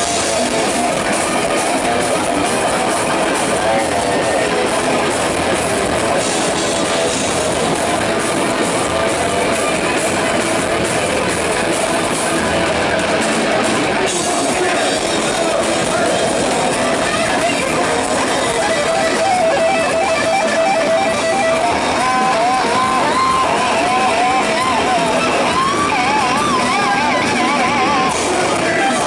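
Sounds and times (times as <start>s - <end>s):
distorted electric guitar bending notes: 0.0s - 29.0s
heavy metal band playing: 0.0s - 29.0s.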